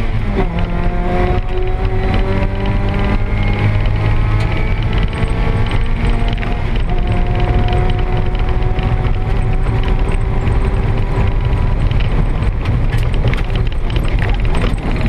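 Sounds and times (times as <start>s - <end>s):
mechanical rattling: 0.0s - 15.0s
race car engine: 0.0s - 15.0s.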